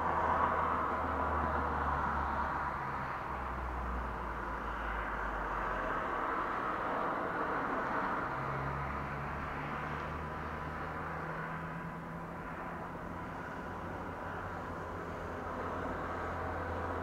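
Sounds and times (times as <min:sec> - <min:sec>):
vehicle engine drone: 0:00.0 - 0:17.0.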